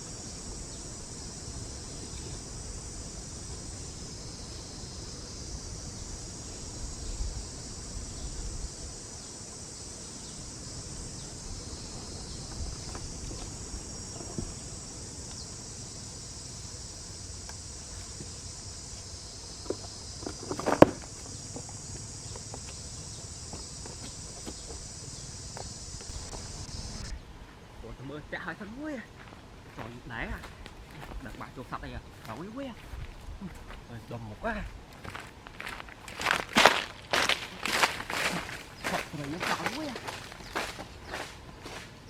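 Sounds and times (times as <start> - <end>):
crickets chirping: 0.0 - 42.0.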